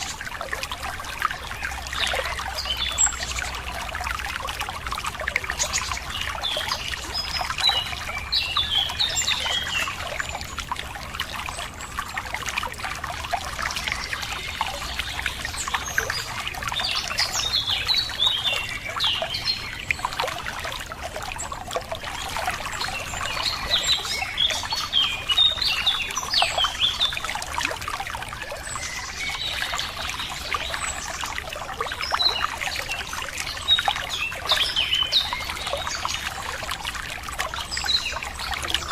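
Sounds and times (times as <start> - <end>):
songbirds chirping: 0.0 - 38.9
water trickling and splashing: 0.0 - 38.9.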